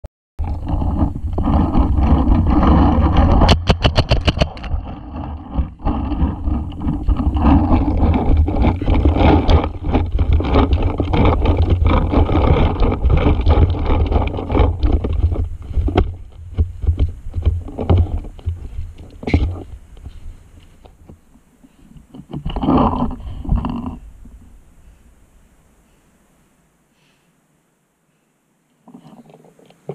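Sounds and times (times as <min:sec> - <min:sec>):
wind rumbling on microphone: 0:00.4 - 0:21.3, 0:22.0 - 0:25.4.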